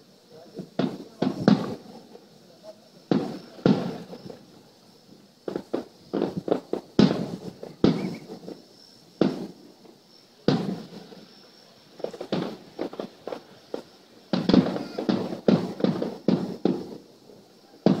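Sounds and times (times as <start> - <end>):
fireworks bangs with echo: 0.0 - 18.0
fireworks small cracks: 0.0 - 18.0.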